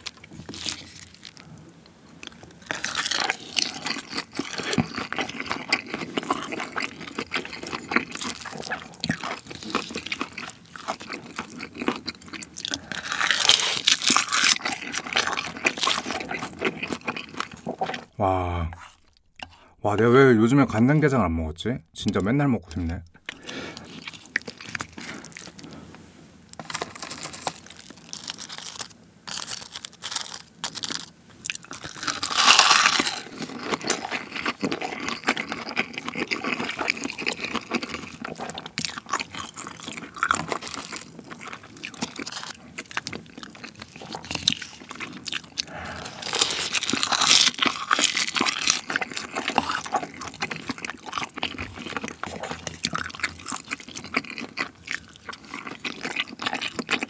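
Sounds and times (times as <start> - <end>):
chewing and wet mouth noises: 0.0 - 19.6, 22.0 - 25.8, 26.5 - 57.0.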